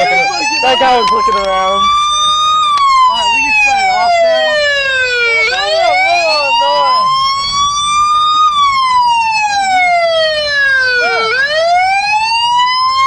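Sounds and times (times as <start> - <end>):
police siren wailing: 0.0 - 13.0.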